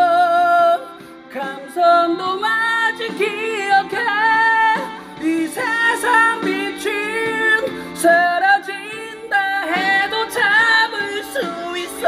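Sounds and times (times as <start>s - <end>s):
person singing karaoke: 0.0s - 12.0s
rock ballad backing track: 0.0s - 12.0s.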